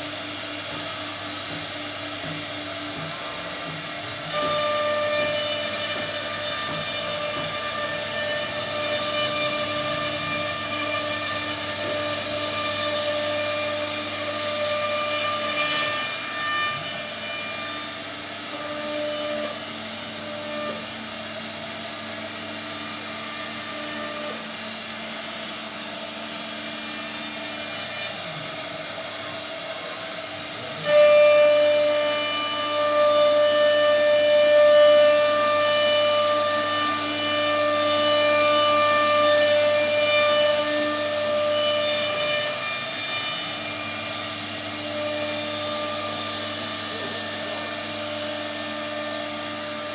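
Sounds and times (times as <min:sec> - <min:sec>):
cnc router spindle whine: 0:00.0 - 0:49.9.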